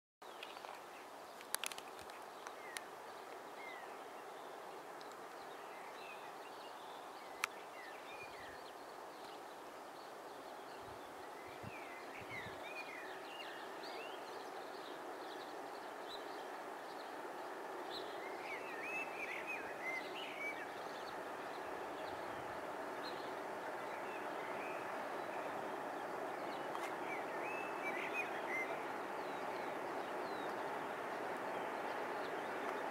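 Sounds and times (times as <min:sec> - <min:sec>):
small birds chirping: 0:00.3 - 0:32.9
steady background hiss: 0:00.3 - 0:32.9.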